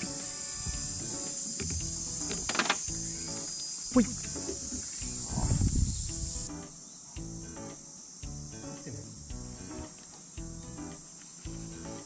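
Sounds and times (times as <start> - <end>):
background music with bass line: 0.0 - 12.0
insect drone: 0.0 - 12.0.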